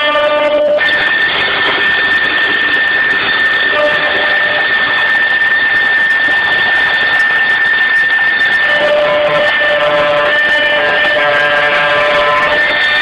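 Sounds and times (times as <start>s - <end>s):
milling machine spindle whine: 0.8s - 13.0s.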